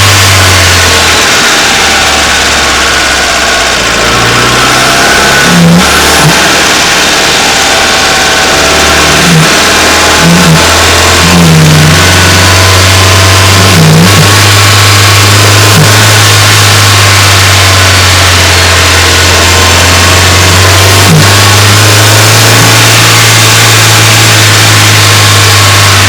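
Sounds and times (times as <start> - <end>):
car engine humming: 0.0 - 26.0
short engine blips: 0.0 - 26.0.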